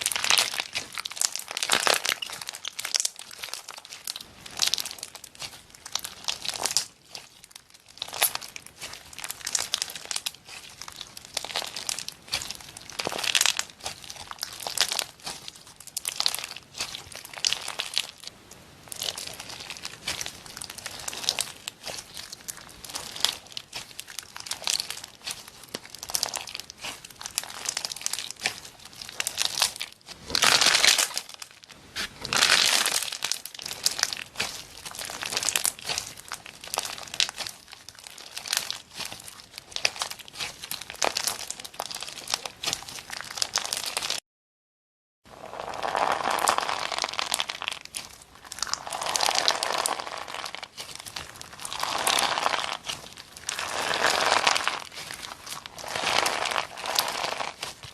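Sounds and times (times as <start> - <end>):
slime squished by hand: 0.0 - 18.3, 18.9 - 44.2, 45.5 - 57.9.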